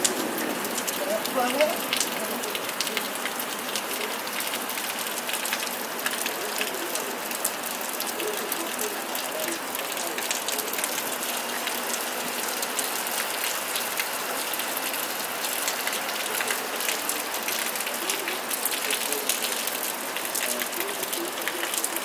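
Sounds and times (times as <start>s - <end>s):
heavy rain: 0.0s - 22.0s
raindrops ticking on hard surface: 0.0s - 22.0s.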